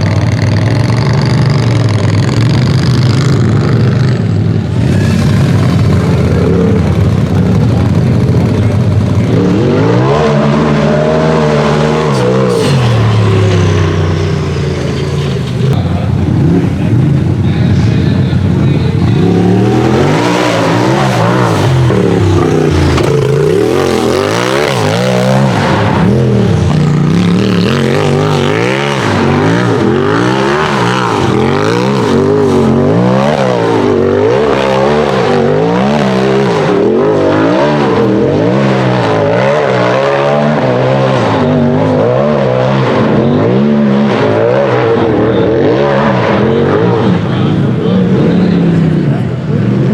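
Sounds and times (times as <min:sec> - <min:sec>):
race engine revving: 0:00.0 - 0:49.9.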